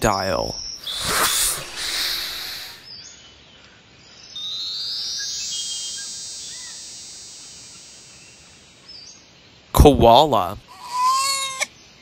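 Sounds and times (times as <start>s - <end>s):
noisy hiss: 0.0s - 10.7s.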